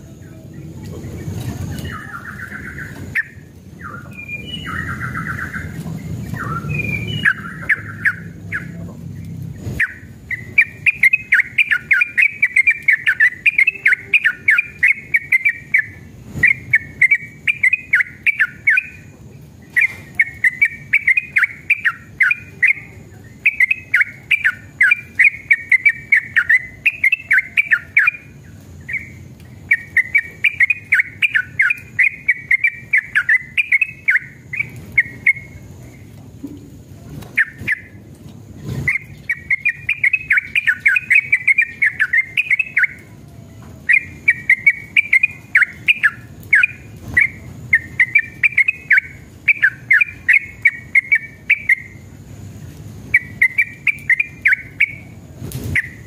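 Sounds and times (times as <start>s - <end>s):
bulbul chattering song: 0.0s - 36.2s, 37.2s - 38.1s, 38.8s - 56.0s.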